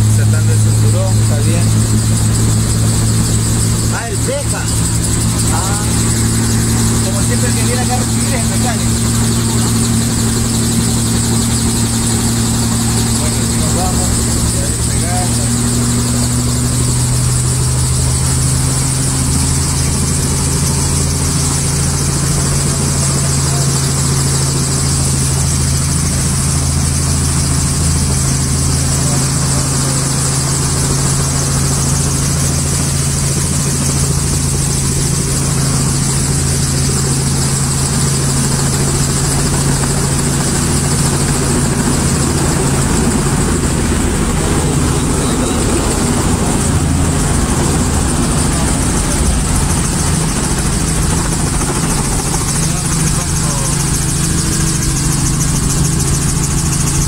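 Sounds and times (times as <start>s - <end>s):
helicopter engine and rotor hum: 0.0s - 57.0s.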